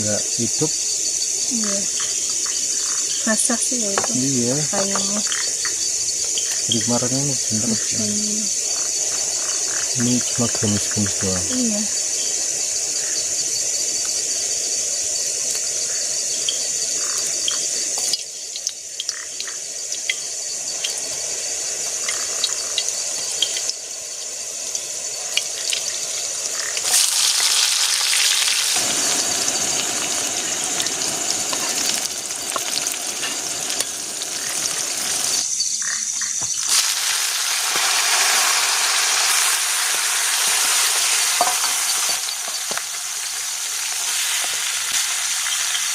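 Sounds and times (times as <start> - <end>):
food sizzling in a pan: 0.0 - 45.9
high insect drone: 0.0 - 45.9.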